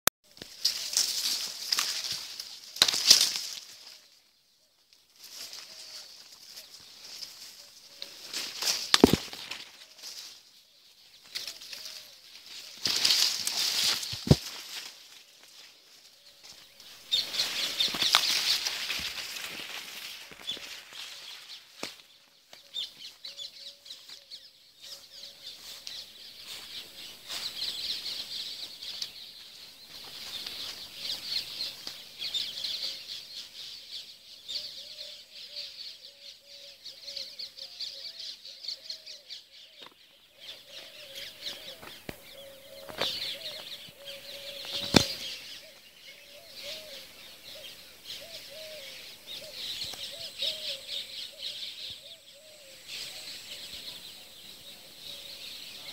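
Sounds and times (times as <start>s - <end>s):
birds chirping: 0.3s - 55.9s.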